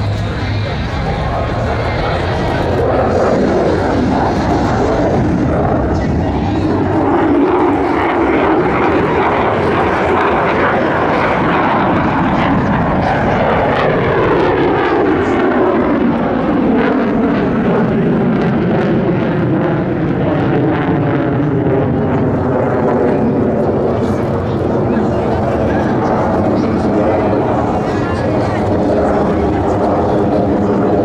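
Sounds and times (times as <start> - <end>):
jet engine roaring: 0.0 - 31.0.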